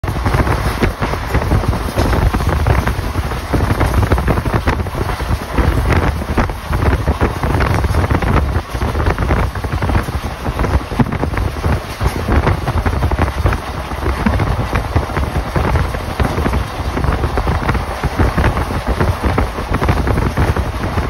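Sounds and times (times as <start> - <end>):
vehicle running noise: 0.0 - 21.0
wind buffeting microphone: 0.0 - 21.0.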